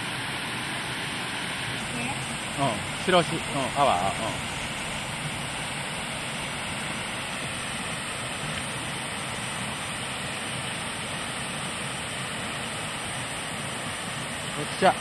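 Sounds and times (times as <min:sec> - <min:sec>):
waterfall spilling over rocks: 0:00.0 - 0:15.0.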